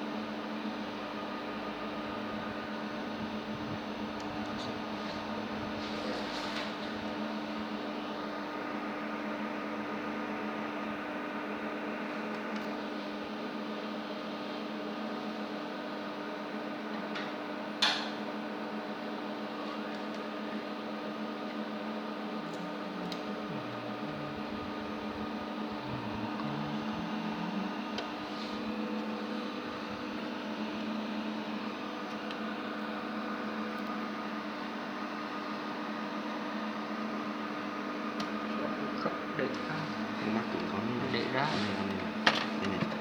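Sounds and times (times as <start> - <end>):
machine hum with fan noise: 0.0 - 43.0.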